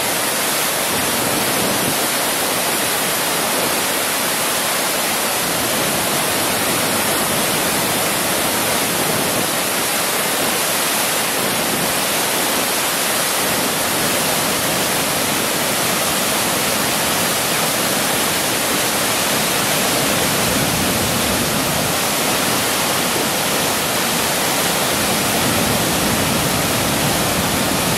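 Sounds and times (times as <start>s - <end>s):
floodwater rushing over dam: 0.0s - 27.9s.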